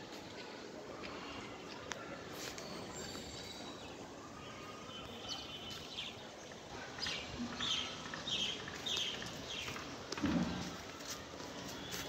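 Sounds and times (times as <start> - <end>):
steady outdoor background noise: 0.0 - 12.0.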